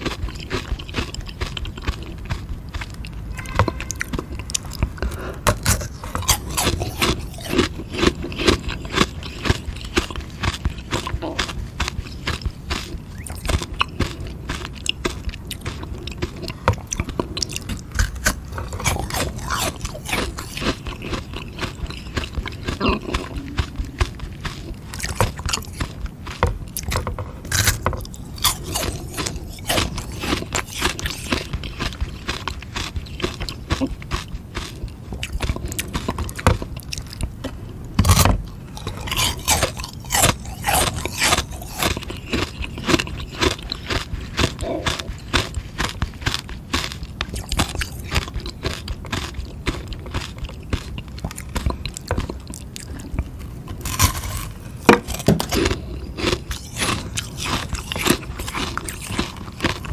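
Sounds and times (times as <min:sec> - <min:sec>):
crunching frozen ice lolly: 0:00.0 - 0:59.9.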